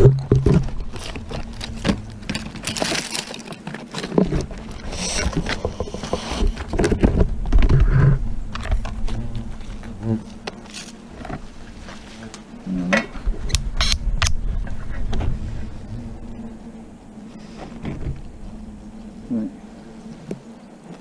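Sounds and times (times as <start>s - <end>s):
hornets buzzing: 0.0s - 21.0s.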